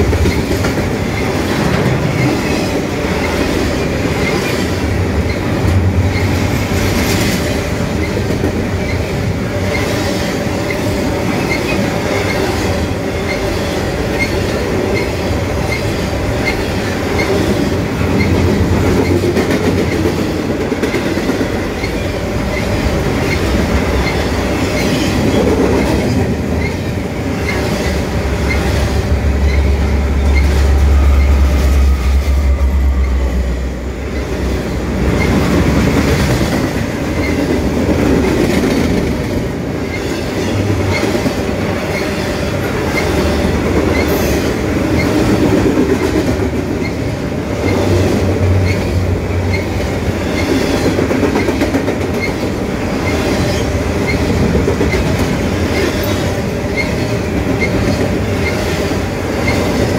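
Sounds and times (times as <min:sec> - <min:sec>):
train wheels clacking over rail joints: 0:00.0 - 0:32.1, 0:34.2 - 0:59.9
rumble of freight cars: 0:00.0 - 0:59.9.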